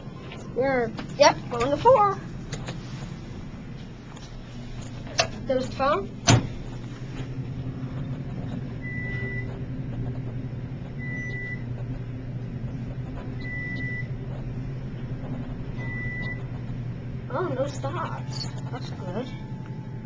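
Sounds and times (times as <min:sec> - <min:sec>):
elevator car humming: 0:00.0 - 0:20.0.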